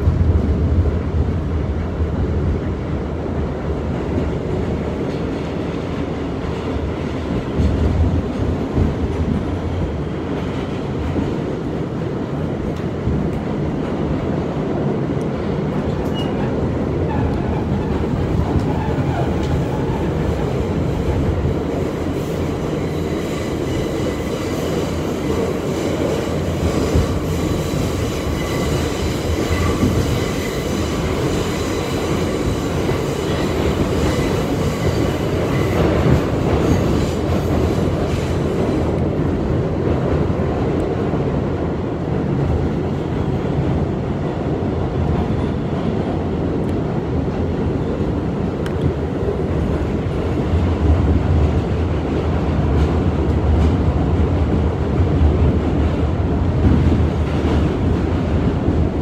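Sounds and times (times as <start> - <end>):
subway wheels rumbling and rattling: 0.0 - 59.0.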